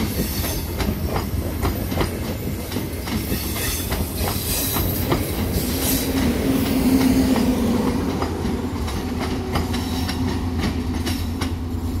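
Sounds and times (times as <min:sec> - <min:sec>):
train rumble and hum: 0:00.0 - 0:12.0
train wheels clicking over rail joints: 0:00.0 - 0:12.0.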